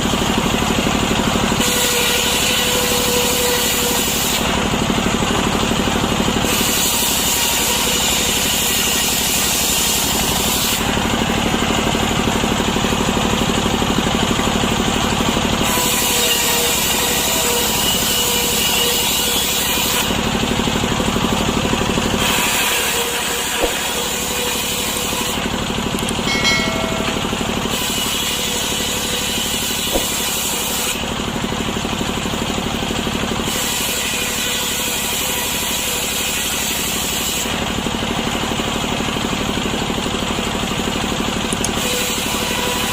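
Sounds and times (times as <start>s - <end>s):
chainsaw cutting through log: 0.0s - 26.9s, 27.6s - 40.9s, 41.6s - 42.9s.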